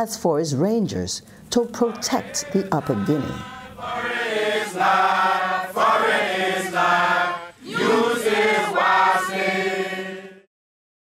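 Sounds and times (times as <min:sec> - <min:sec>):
voices chanting together: 0:01.5 - 0:10.5.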